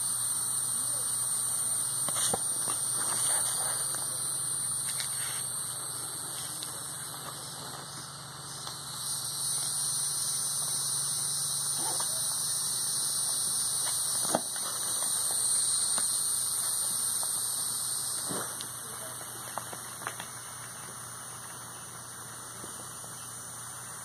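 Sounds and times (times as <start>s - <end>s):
night insects droning: 0.0s - 24.0s.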